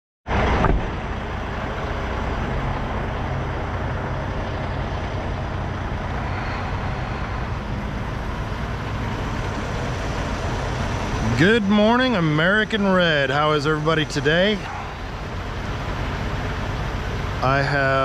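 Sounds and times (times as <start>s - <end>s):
diesel truck engine running: 0.3s - 18.0s.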